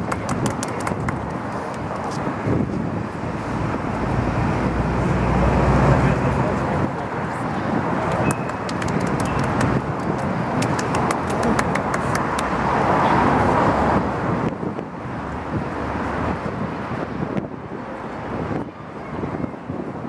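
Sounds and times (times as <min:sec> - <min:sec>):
traffic noise: 0:00.0 - 0:20.0
wind buffeting microphone: 0:00.0 - 0:20.0.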